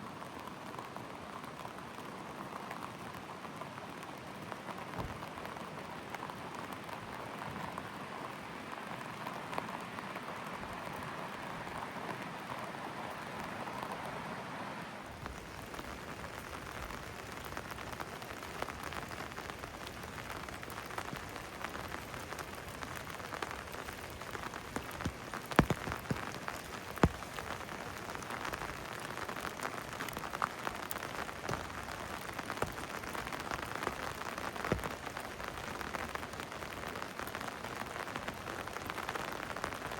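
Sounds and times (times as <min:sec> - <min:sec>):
loud nearby raindrops: 0:00.0 - 0:39.9
rain pattering on hard surfaces: 0:00.0 - 0:39.9.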